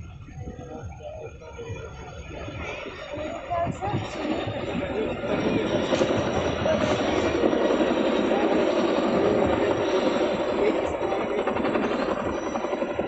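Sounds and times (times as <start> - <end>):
helicopter rotors and turbines: 0.0 - 13.0.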